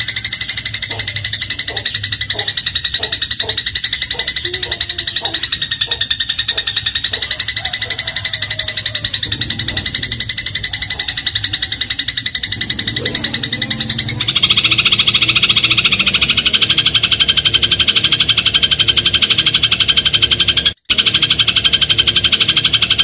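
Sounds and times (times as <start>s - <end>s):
sparrow trilling chirps: 0.0s - 23.0s.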